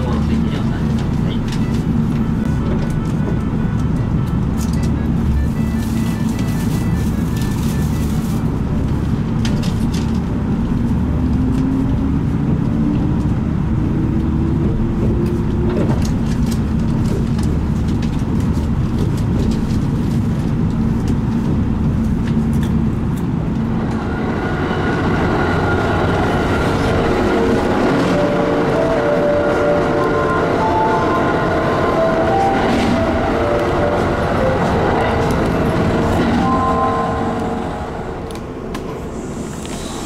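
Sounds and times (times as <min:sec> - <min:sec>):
moving train running noise: 0:00.0 - 0:40.0
train interior low rumble: 0:00.0 - 0:40.0.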